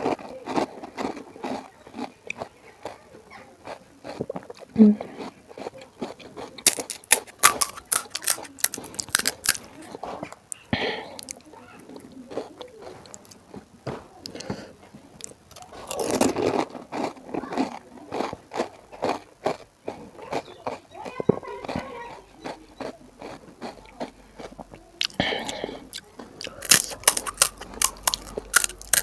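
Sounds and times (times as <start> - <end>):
crunching and chewing crisp shells: 0.0 - 29.0.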